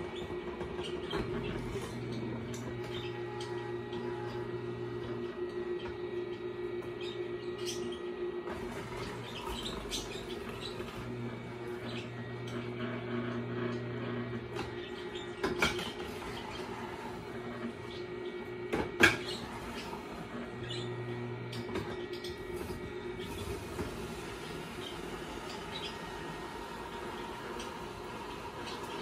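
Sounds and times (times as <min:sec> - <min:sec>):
juicer humming: 0:00.0 - 0:29.0.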